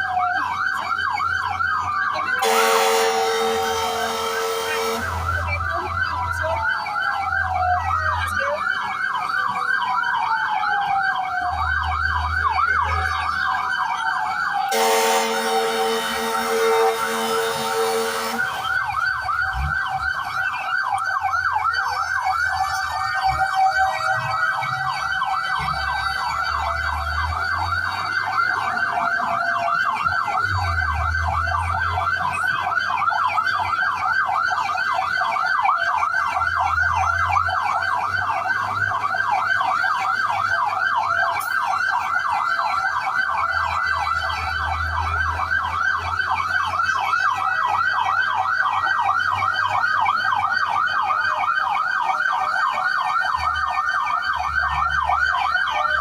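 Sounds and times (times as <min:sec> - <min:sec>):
fire truck siren yelping: 0:00.0 - 0:56.0
wailing siren: 0:00.0 - 0:56.0.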